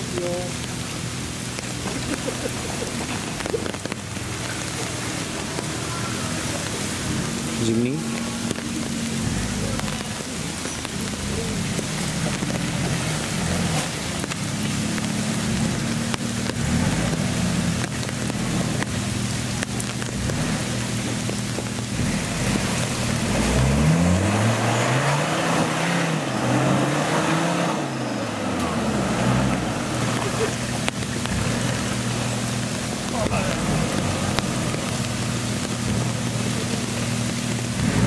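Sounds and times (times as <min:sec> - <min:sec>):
off-road engines revving: 0:00.0 - 0:38.0
rain hissing: 0:00.0 - 0:38.0.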